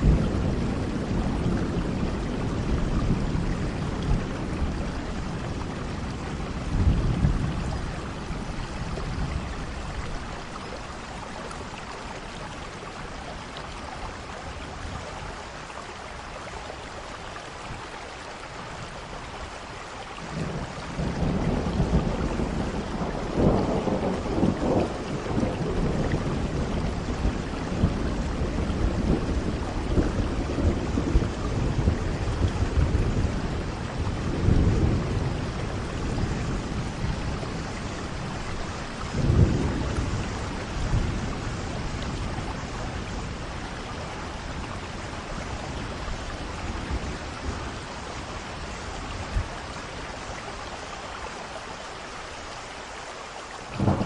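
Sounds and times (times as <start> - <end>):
thunder rumbling: 0.0 - 13.1, 20.2 - 50.4, 53.7 - 54.0
steady rain falling: 0.0 - 54.0.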